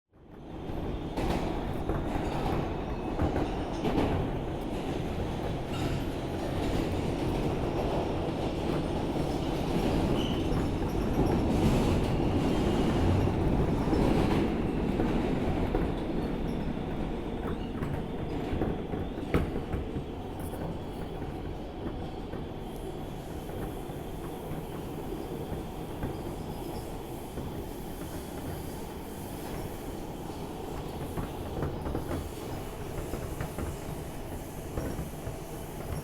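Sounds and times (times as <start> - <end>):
subway train rumbling: 0.1 - 36.0.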